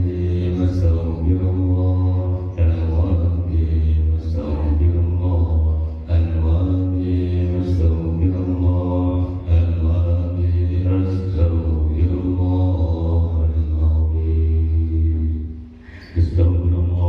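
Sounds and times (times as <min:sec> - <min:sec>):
person chanting melodic recitation: 0:00.0 - 0:15.6, 0:16.2 - 0:17.0.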